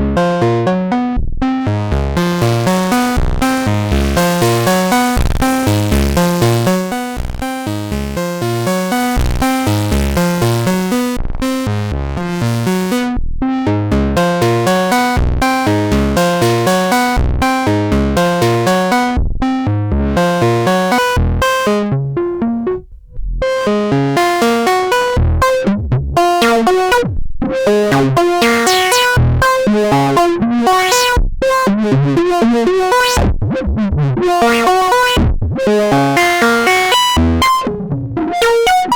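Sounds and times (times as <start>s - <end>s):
synth bass sequencer pattern: 0.0s - 38.9s.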